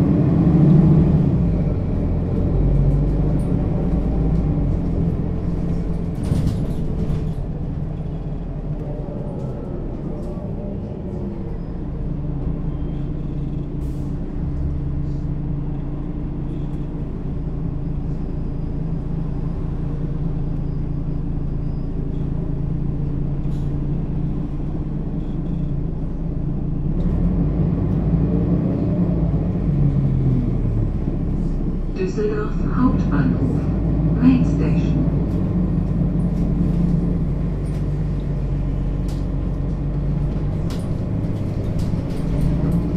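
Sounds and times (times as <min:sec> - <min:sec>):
bus diesel engine drone: 0:00.0 - 0:42.9.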